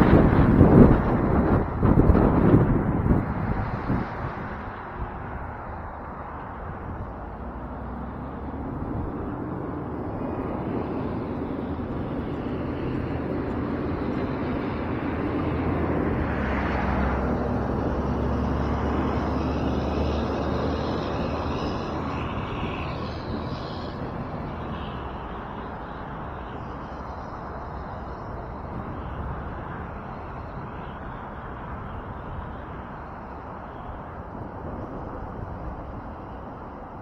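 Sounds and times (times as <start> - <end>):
traffic passing on road: 0.0 - 37.0.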